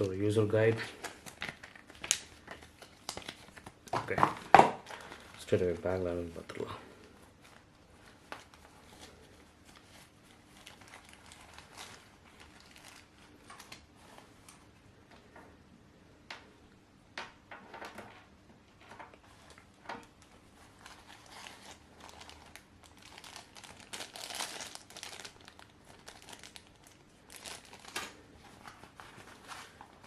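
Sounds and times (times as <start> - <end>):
plastic packaging crinkling: 0.0 - 14.7, 18.9 - 30.0.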